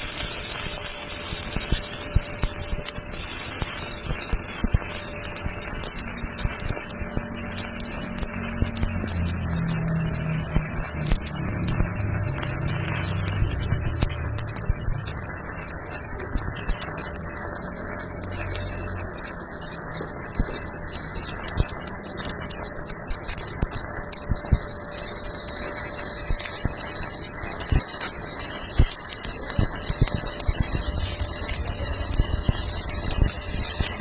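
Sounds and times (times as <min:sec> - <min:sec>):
welding arc hissing and crackling: 0:00.0 - 0:34.0.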